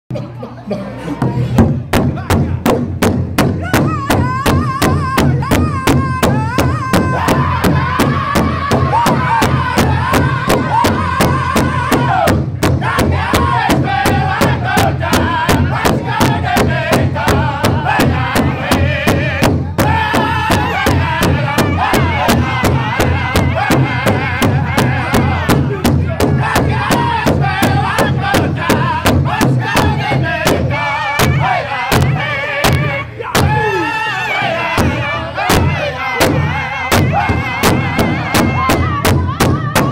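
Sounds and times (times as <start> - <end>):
drummers striking large drum: 1.2 - 33.7, 34.3 - 39.9
men singing high-pitched song: 3.6 - 39.9.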